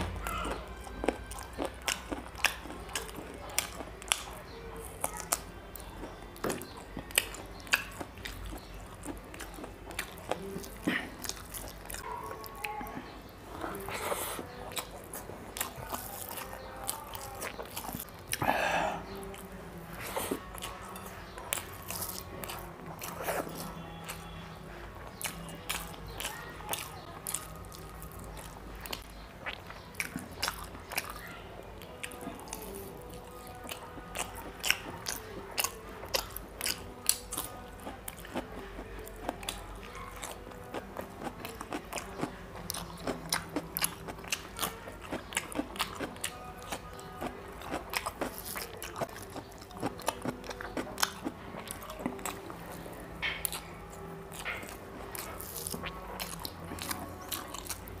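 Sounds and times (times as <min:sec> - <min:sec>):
man chewing wetly: 0:00.0 - 0:31.2, 0:31.8 - 0:58.0.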